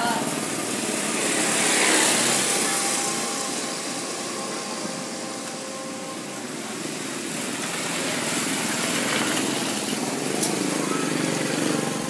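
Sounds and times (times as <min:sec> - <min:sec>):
motorbike engines: 0:00.0 - 0:12.0.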